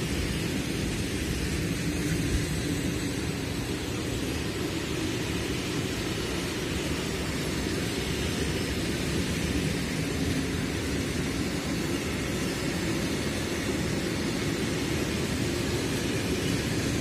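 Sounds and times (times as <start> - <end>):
hiss: 0.0 - 17.0
train wheels rumbling on track: 0.0 - 17.0.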